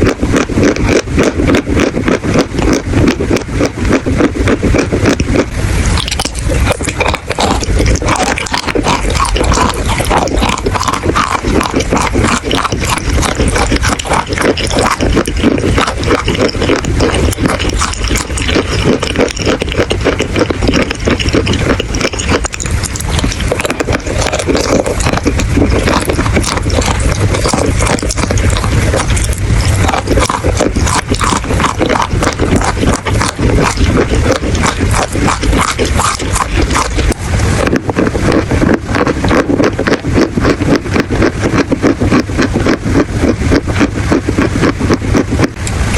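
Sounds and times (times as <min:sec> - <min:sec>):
chalk being crunched by teeth: 0:00.0 - 0:45.8.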